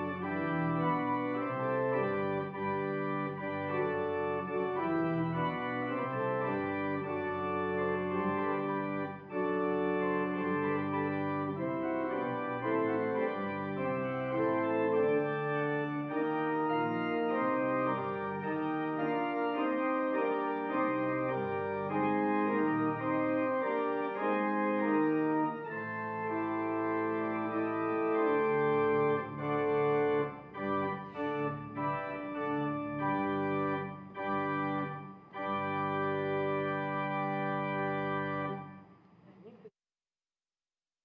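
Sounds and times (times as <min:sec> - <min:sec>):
organ playing held chords: 0:00.0 - 0:38.8.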